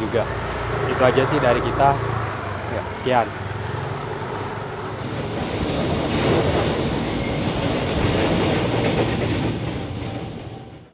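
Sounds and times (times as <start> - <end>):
train wheels rumbling on rails: 0.0 - 10.9.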